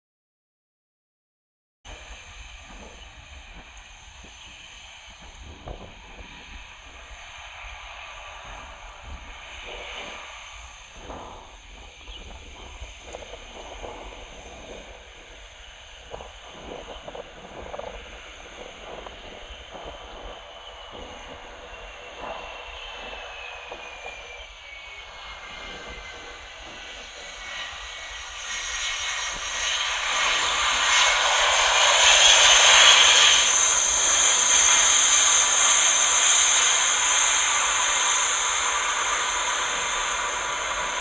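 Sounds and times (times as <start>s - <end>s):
jet airliner rushing hiss: 1.9s - 41.0s
jet engine whine: 1.9s - 41.0s.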